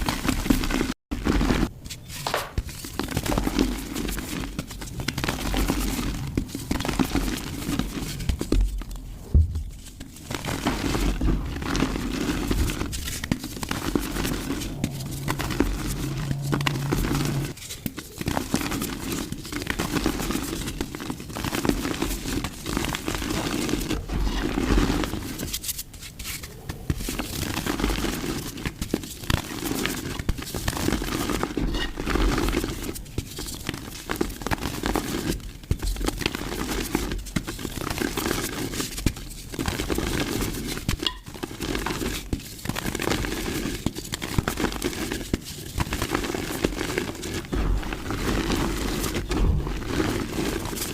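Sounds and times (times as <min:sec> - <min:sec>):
mud crushed and crumbling: 0:00.0 - 0:50.9.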